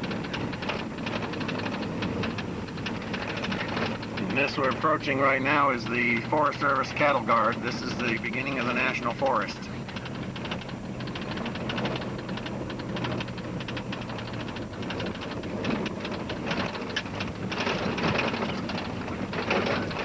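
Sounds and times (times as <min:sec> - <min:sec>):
tire chains clattering: 0:00.0 - 0:20.0
truck engine hum: 0:00.0 - 0:20.0
truck rattling: 0:00.0 - 0:20.0.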